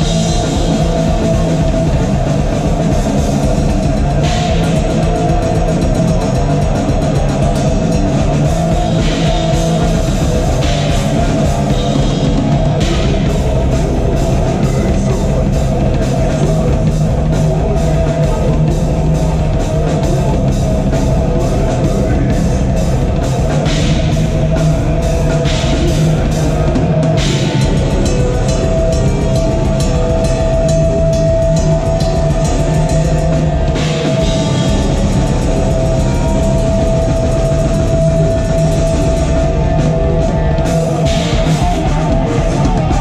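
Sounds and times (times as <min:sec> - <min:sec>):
distorted electric guitars: 0:00.0 - 0:43.0
fast drum hits: 0:00.0 - 0:43.0.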